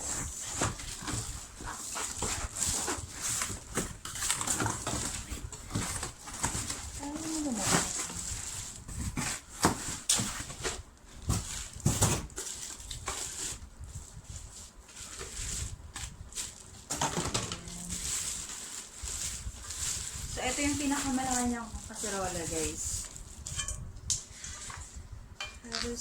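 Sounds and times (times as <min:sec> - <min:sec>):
packaging rustling: 0:00.0 - 0:23.6.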